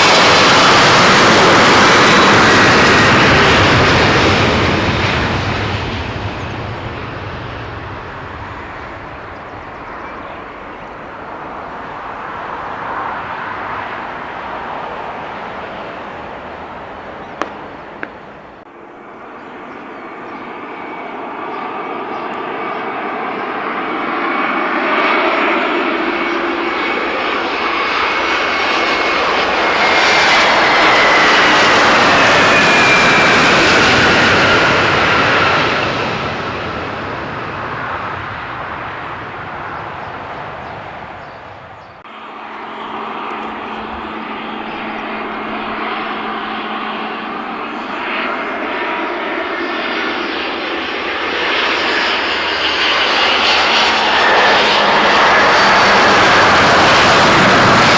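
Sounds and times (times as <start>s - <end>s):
airliner engines passing: 0.0s - 57.9s.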